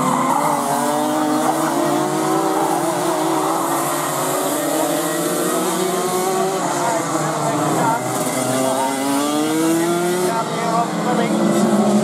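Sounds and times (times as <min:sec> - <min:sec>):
go-kart engines racing: 0:00.0 - 0:12.0.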